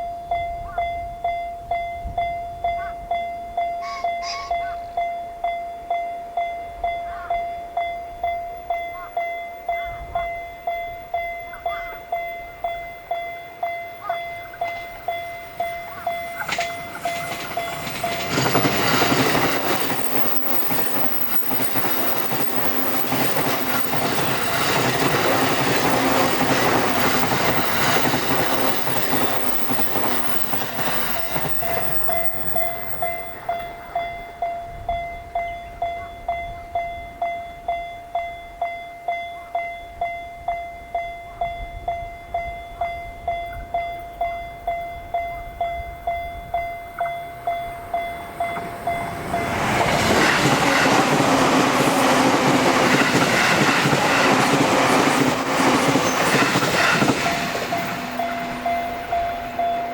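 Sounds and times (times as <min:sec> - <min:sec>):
level crossing warning bell: 0:00.0 - 0:59.9
train wheels on track: 0:07.0 - 0:37.7, 0:41.3 - 0:59.9.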